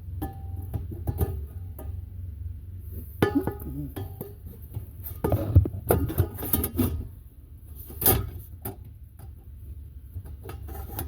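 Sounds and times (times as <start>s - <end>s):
air filter handling knocks and scrapes: 0.2s - 2.0s, 3.0s - 9.5s, 10.1s - 11.0s.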